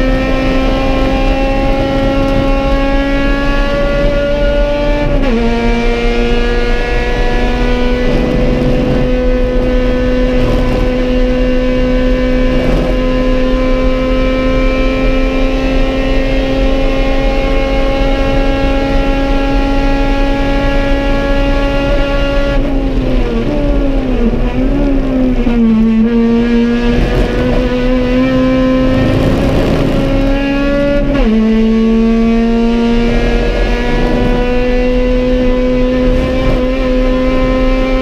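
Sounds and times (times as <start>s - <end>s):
race car engine revving: 0.0s - 38.0s.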